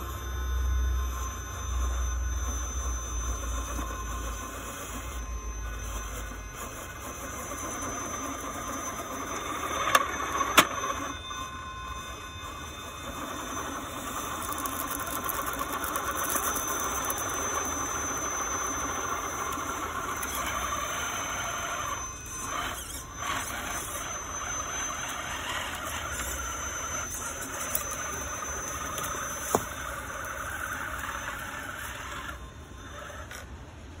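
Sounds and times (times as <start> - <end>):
electric motor whine: 0.0 - 34.0.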